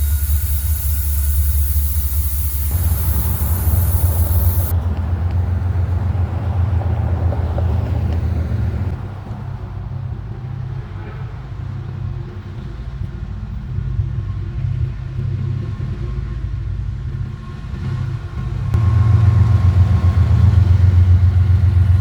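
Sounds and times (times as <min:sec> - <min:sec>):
diesel locomotive engines rumbling: 0:00.0 - 0:22.0.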